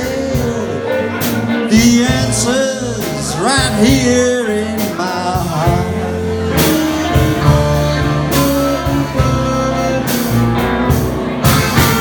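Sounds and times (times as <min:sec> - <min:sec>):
blues band playing: 0:00.0 - 0:12.0
guitar notes: 0:00.0 - 0:12.0.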